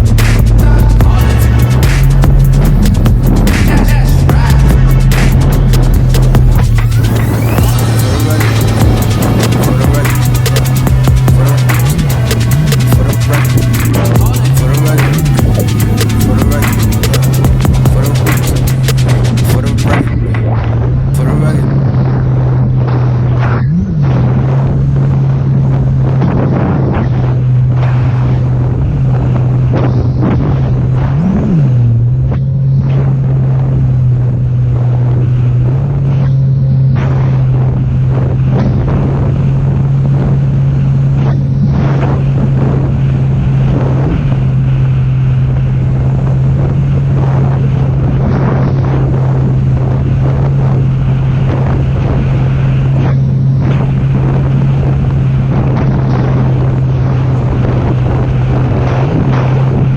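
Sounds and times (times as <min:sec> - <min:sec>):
jet ski engine running: 0:00.0 - 0:59.9
water noise: 0:00.0 - 0:59.9
wind on microphone: 0:00.0 - 0:59.9.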